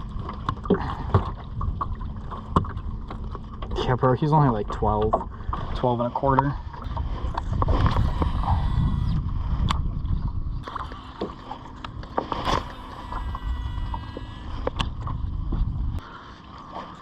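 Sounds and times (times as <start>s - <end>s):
steady low rumble: 0.0s - 16.1s.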